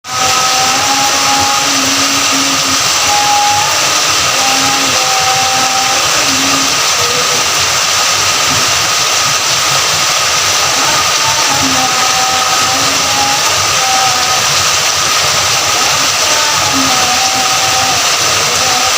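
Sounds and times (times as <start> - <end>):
steady rain hiss: 0.0 - 18.9.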